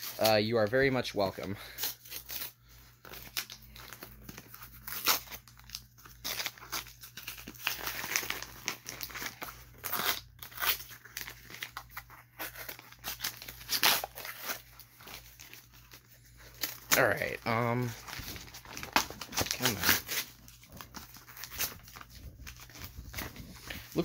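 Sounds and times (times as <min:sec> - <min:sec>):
package packaging tearing and crinkling: 0:00.0 - 0:24.0.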